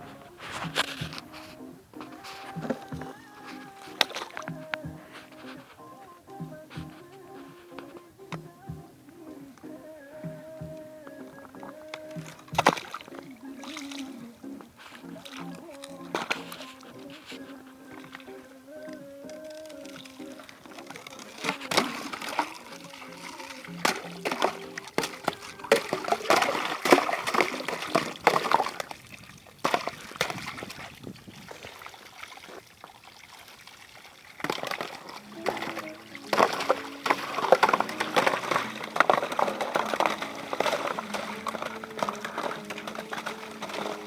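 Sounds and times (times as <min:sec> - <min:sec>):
water splashing and sloshing: 0:00.0 - 0:44.0.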